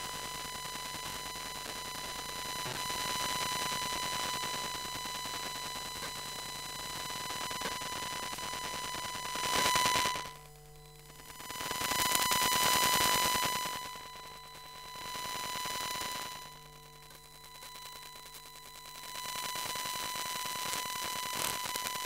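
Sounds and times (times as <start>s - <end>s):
buzzing static: 0.0s - 22.0s.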